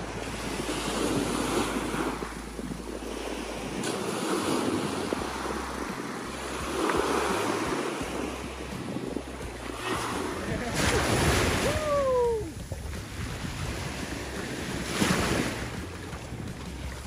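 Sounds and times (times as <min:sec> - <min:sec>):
ocean surf washing up beach: 0:00.0 - 0:17.0
wind buffeting microphone: 0:00.0 - 0:17.0.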